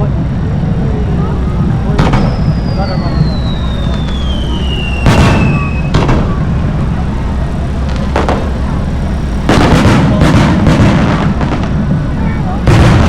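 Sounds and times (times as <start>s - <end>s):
fireworks booming: 0.0s - 13.0s
low rumble: 0.0s - 13.0s.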